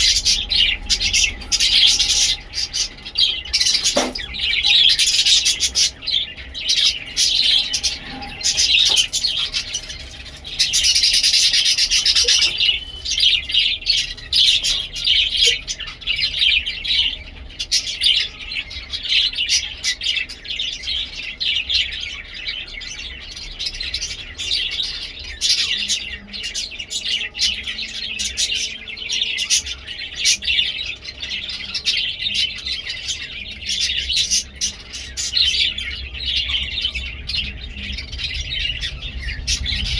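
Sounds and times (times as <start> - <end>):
budgies chattering and chirping: 0.0 - 39.9.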